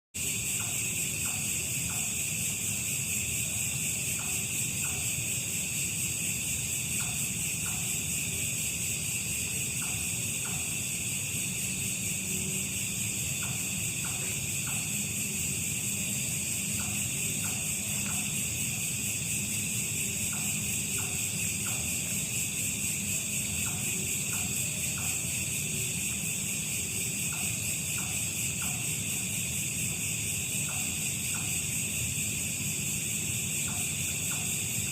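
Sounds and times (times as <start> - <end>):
insects chirping chorus: 0.2 - 34.9.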